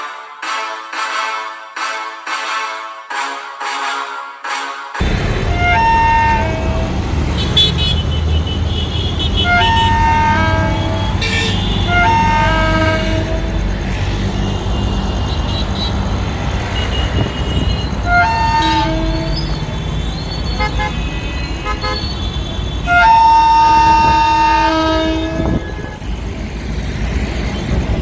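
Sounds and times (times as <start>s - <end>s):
locomotive horn honking: 0.4s - 26.3s
freight train rumbling: 5.0s - 28.0s.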